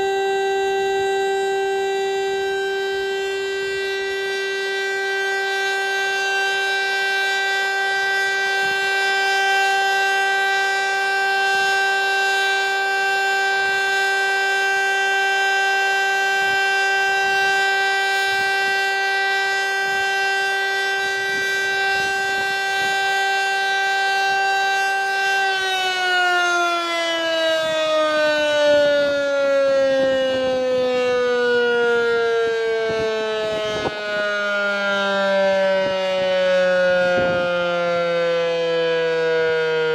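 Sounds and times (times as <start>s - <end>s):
civil defense siren steady tone: 0.0s - 39.9s.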